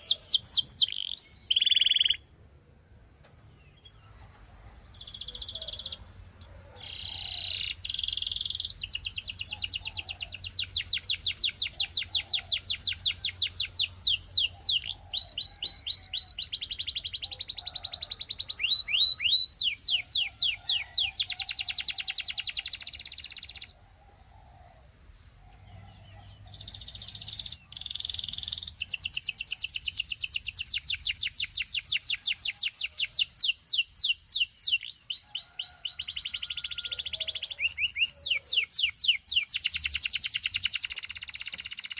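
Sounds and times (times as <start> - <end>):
canary singing trills: 0.0 - 2.4, 3.4 - 23.8, 25.3 - 41.9.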